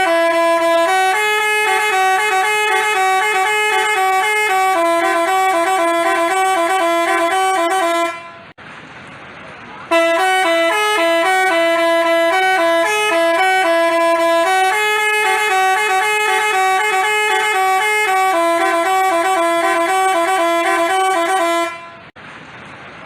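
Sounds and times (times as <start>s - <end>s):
bus air horn playing a tune: 0.0s - 8.6s, 9.9s - 22.2s.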